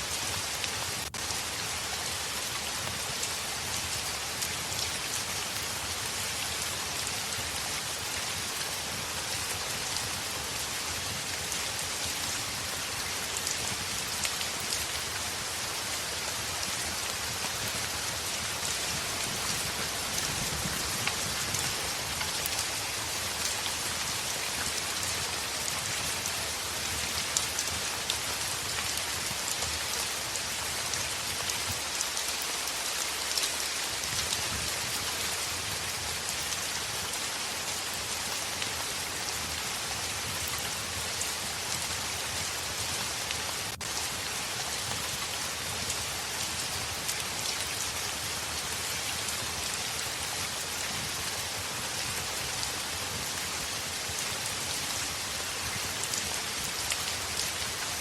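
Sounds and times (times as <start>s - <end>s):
heavy rain on a window: 0.1s - 58.0s.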